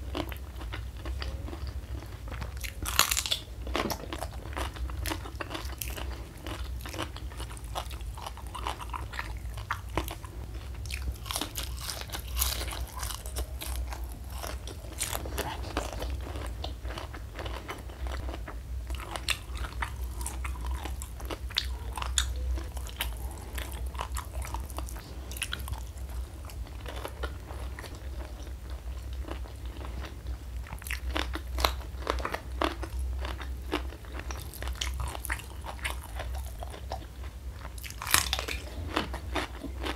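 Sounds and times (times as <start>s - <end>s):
crunchy fried food chewing: 0.0s - 39.9s
steady low hum: 0.0s - 39.9s.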